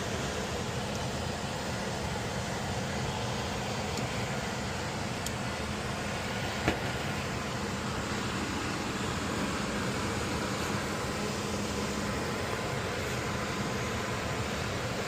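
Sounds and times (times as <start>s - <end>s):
air conditioner whoosh and hum: 0.0s - 15.0s.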